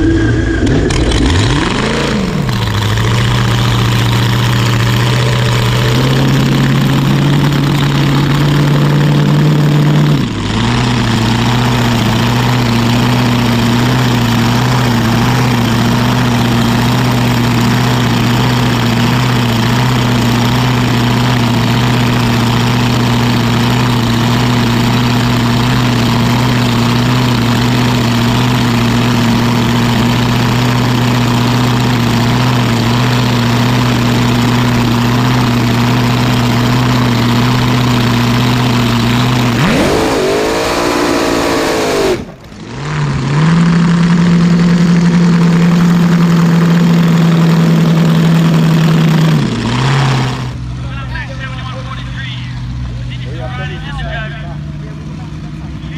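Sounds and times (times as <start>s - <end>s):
dragster engines idling: 0.0s - 55.9s
engines revving sharply: 0.0s - 55.9s.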